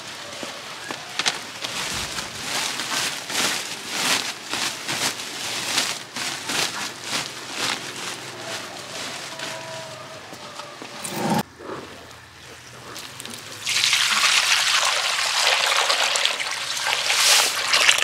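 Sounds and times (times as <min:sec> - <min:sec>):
plastic sack rustling and crinkling: 0:00.0 - 0:11.4, 0:13.2 - 0:18.0.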